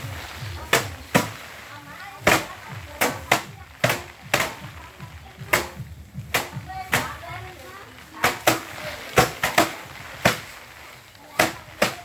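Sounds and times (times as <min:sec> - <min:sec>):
rice bundles thwacking on hard surface: 0:00.0 - 0:12.0.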